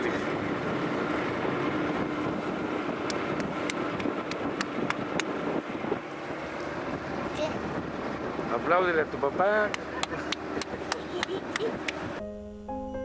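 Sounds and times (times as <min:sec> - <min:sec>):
boat motor running: 0:00.0 - 0:12.2
wind and water noise: 0:00.0 - 0:12.2.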